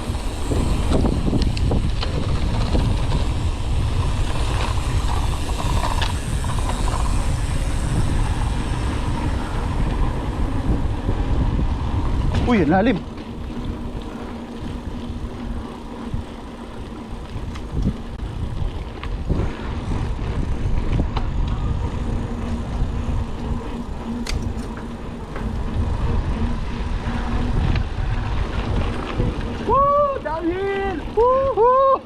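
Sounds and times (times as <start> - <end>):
bike rattles and knocks: 0.0 - 31.4
wind and ride rumble: 0.0 - 32.0.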